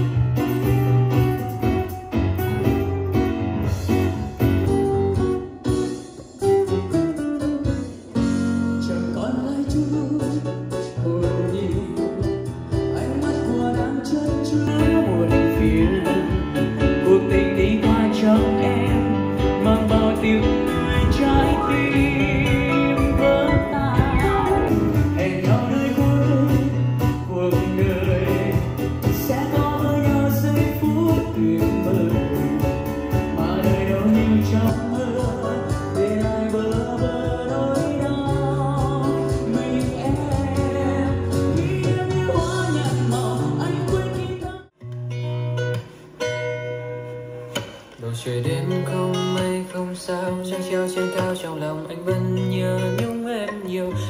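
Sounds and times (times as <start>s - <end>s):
song with singing and guitar: 0.0s - 54.0s.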